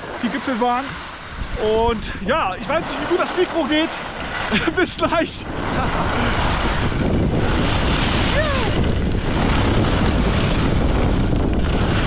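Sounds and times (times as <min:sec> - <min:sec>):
skis running over snow: 0:00.0 - 0:12.0
wind buffeting microphone: 0:00.0 - 0:12.0.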